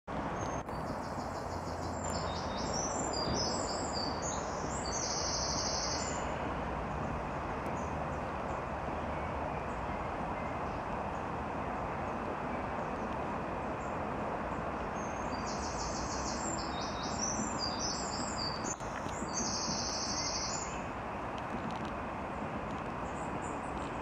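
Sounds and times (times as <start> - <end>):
outdoor hiss and rumble: 0.1 - 24.0
songbirds chirping: 0.2 - 21.3.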